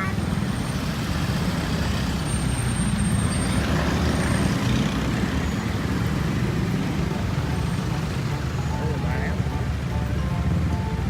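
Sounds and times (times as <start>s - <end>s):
heavy vehicles rumbling: 0.0s - 11.0s.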